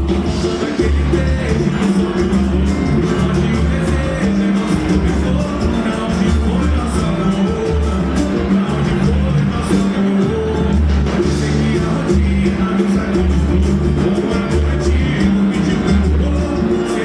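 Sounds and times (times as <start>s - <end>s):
band playing a song: 0.0s - 17.0s
bass line: 0.0s - 17.0s.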